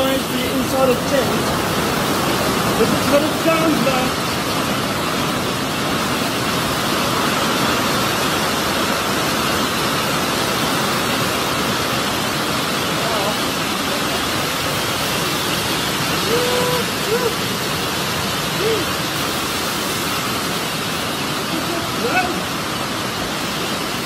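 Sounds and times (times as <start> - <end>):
heavy rain on a tent roof: 0.0 - 24.0.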